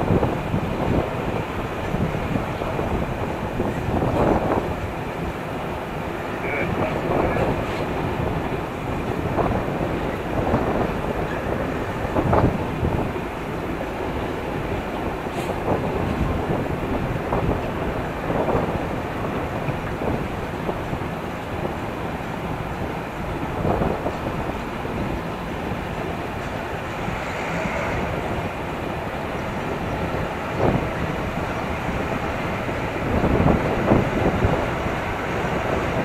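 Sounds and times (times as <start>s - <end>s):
train wind and wheel noise: 0.0s - 36.0s.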